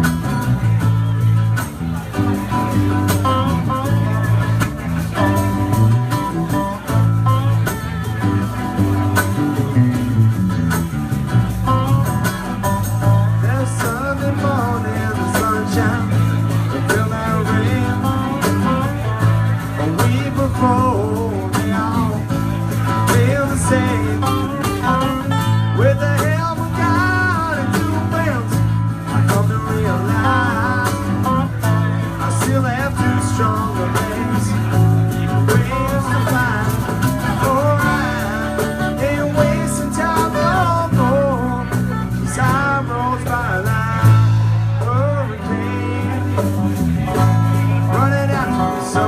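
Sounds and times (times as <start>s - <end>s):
lead guitar with bent notes: 0.0s - 49.0s
live rock band playing: 0.0s - 49.0s.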